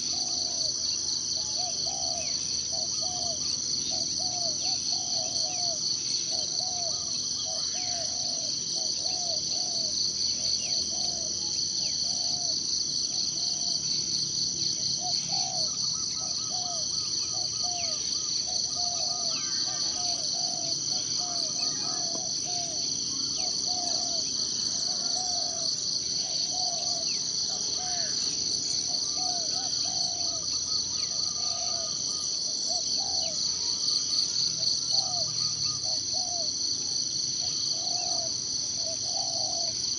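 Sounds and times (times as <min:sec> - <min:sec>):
bird low calls: 0:00.0 - 0:12.6, 0:15.0 - 0:33.8, 0:34.6 - 0:39.8
insect chorus trilling: 0:00.0 - 0:39.9.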